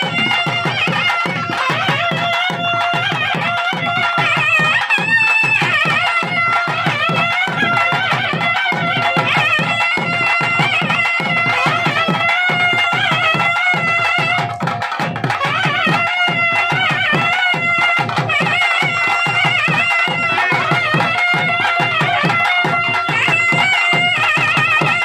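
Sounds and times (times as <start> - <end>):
rapid barrel drumming: 0.0 - 25.0
reed wind instrument melody: 0.0 - 25.0.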